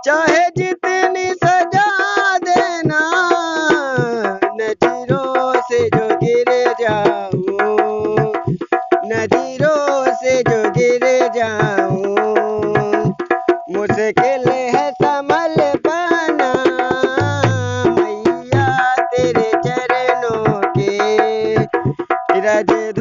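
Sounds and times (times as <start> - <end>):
dholak drumming: 0.0 - 23.0.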